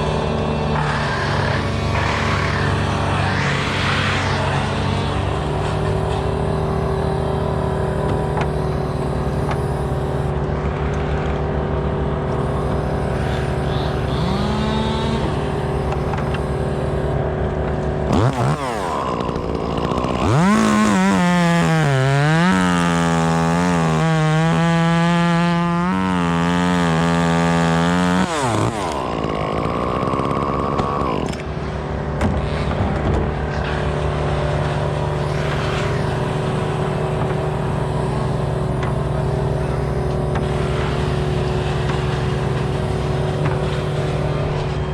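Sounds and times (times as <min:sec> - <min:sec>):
chainsaw cutting wood: 0:00.0 - 0:44.9
steady engine drone: 0:00.0 - 0:44.9.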